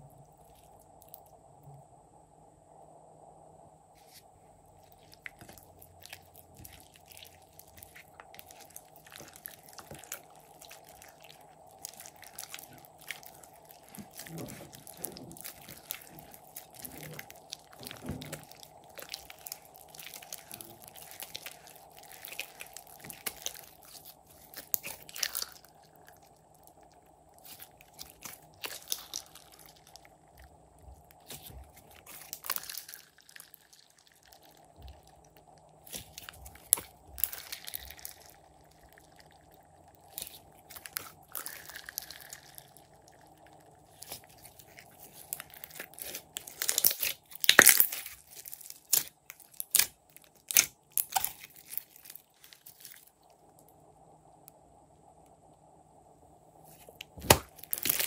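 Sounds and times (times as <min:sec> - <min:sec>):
slime squishing and crackling: 0:00.0 - 0:01.4, 0:04.0 - 0:53.8, 0:56.7 - 0:58.0.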